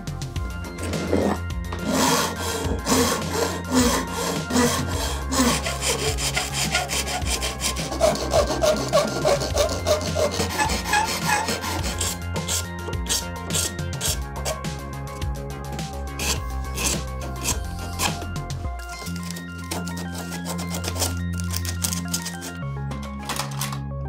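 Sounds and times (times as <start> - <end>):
file scraping plastic: 0.8 - 14.7, 16.1 - 22.6.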